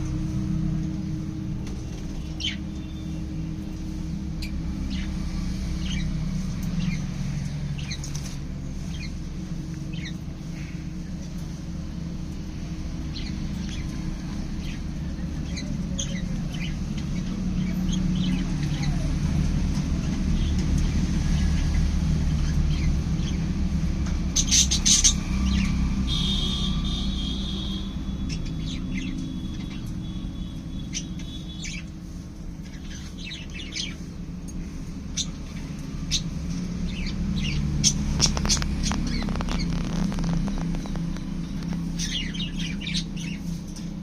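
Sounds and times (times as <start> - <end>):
parrots chirping and squawking: 2.0 - 11.0, 12.6 - 19.2, 24.2 - 43.9.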